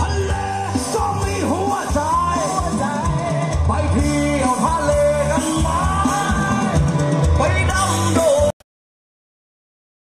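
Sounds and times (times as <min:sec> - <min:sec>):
song from stereo speakers: 0:00.0 - 0:08.6.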